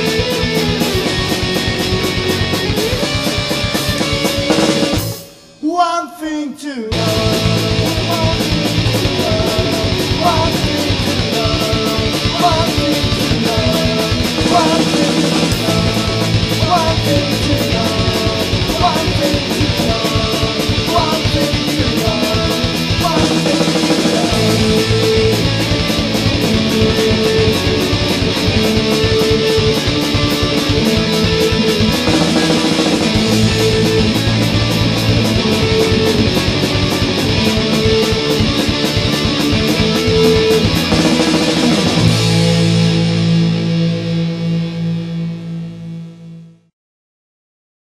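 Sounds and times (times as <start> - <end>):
fast drumming: 0.0 - 5.3, 6.9 - 43.2
distorted electric guitar chords: 0.0 - 46.7.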